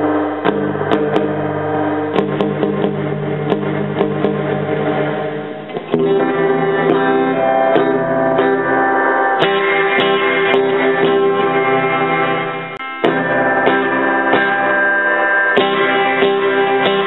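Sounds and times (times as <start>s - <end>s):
electric guitar notes and chords: 0.0s - 17.0s.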